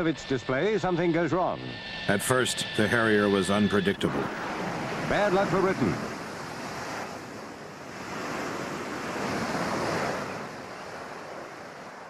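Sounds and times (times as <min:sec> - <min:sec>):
jet engine rushing: 0:00.0 - 0:10.6.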